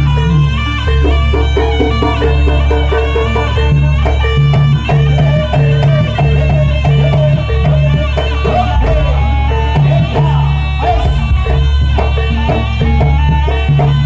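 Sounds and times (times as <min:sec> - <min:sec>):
dance music with drums and melody: 0:00.0 - 0:14.0.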